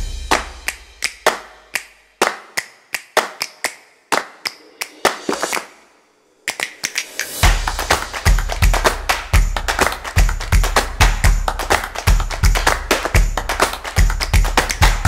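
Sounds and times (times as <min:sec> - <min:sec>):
sharp clap-like percussive hits: 0:00.0 - 0:15.0.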